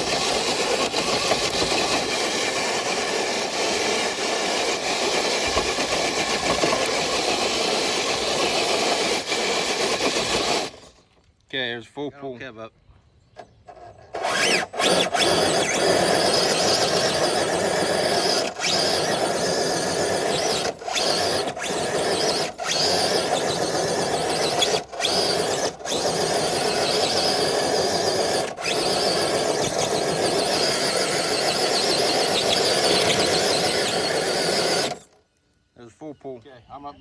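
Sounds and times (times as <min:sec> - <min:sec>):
electric motor whining: 0:00.0 - 0:11.0, 0:13.4 - 0:35.2.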